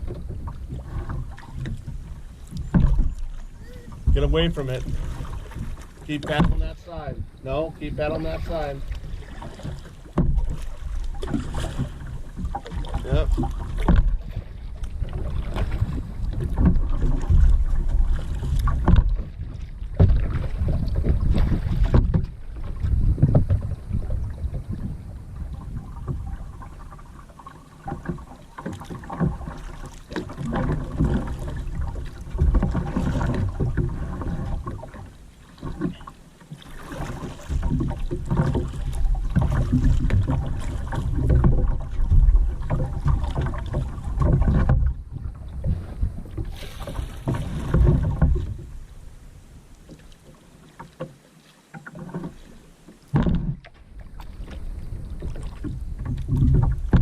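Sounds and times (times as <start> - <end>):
paddle strokes splashing water: 0.0 - 57.0.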